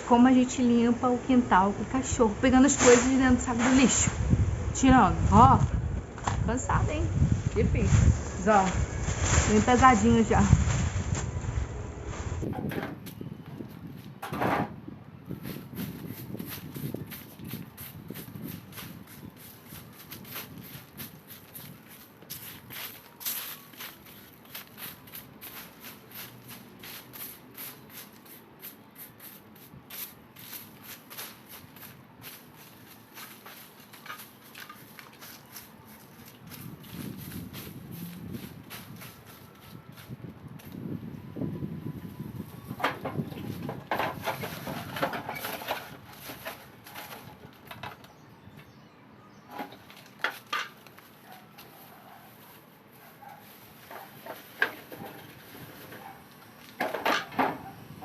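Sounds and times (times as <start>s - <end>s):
dry leaves rustling and scraping: 1.9s - 12.5s, 15.3s - 48.2s, 49.5s - 58.0s.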